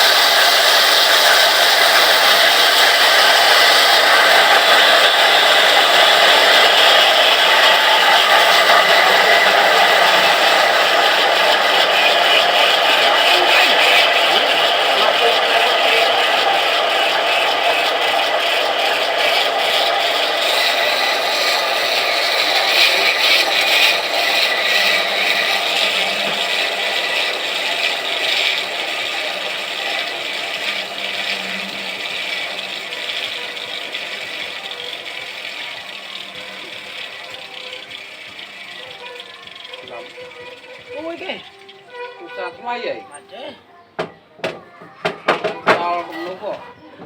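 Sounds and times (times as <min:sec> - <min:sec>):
rattling and scraping: 0:00.0 - 0:43.5.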